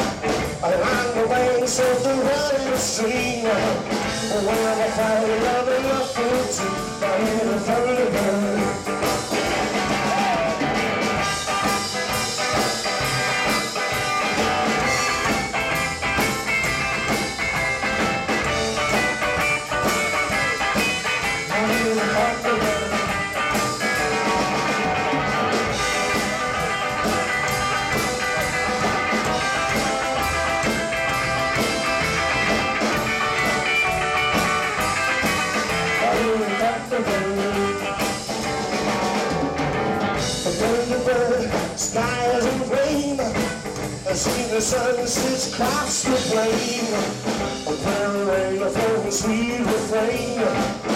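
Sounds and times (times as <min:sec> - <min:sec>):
electric guitar: 0:00.0 - 0:50.9
live rockabilly band playing: 0:00.0 - 0:50.9.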